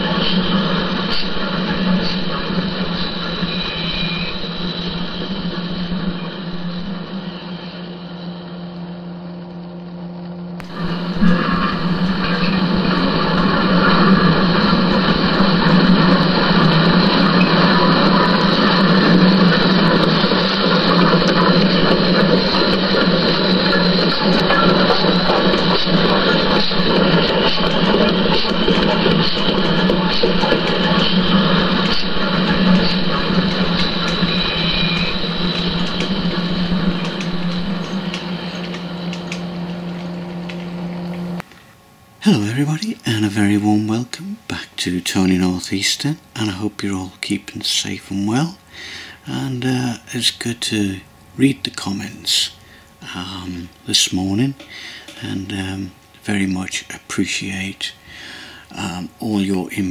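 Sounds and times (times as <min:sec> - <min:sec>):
model train whirring on track: 0:00.0 - 0:09.0, 0:10.6 - 0:41.5, 0:42.2 - 0:59.9.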